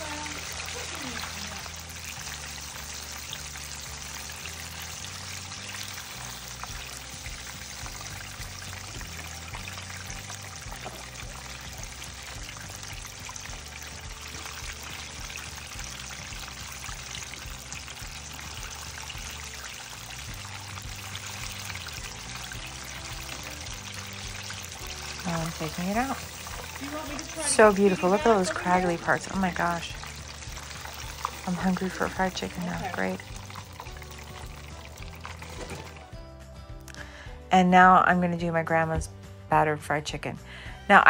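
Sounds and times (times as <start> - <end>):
oil sizzling and popping: 0.0 - 37.1
quiet background music: 0.0 - 41.0.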